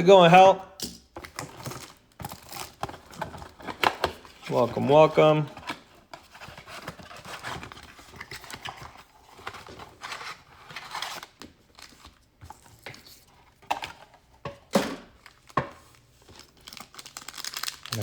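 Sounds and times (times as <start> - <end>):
card packaging rustling and crinkling: 1.2 - 18.0.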